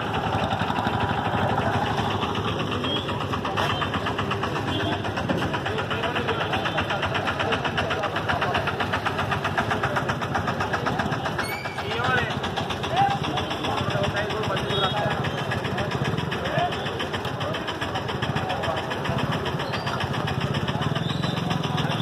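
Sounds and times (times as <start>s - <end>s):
auto-rickshaw engine running: 0.0s - 22.0s.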